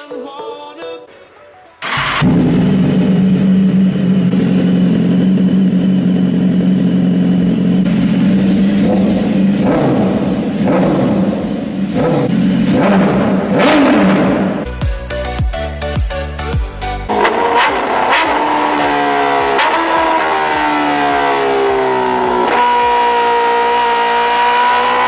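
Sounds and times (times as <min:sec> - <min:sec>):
motorcycle engine revving: 0:01.8 - 0:14.7, 0:17.0 - 0:25.0.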